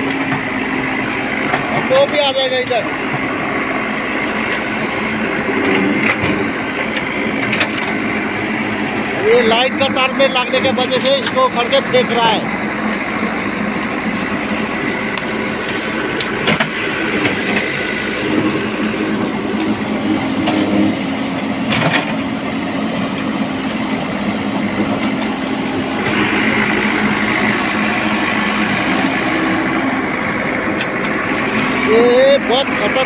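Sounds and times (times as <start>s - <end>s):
backhoe diesel engine running: 0.0s - 33.0s.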